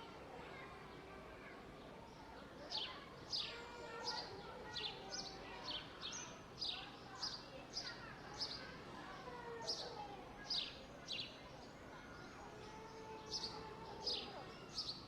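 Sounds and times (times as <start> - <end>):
faint chatter of voices: 0.0 - 15.0.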